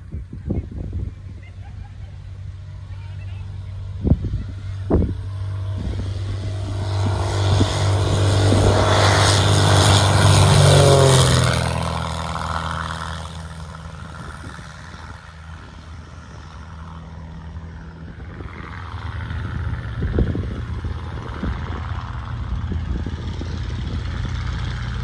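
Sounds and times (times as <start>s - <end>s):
propeller plane passing by: 0.0s - 25.0s.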